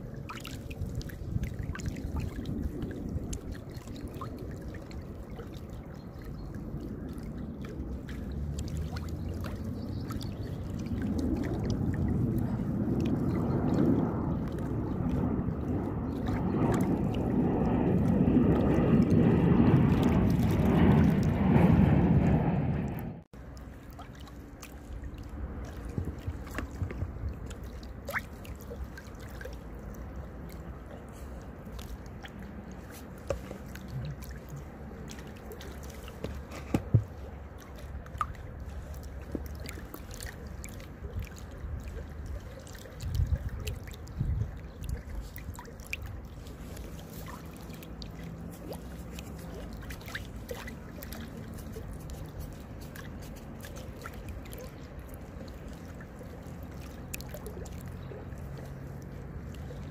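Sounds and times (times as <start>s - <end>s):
small splashes: 0.0s - 59.9s
small waves lapping: 0.0s - 59.9s.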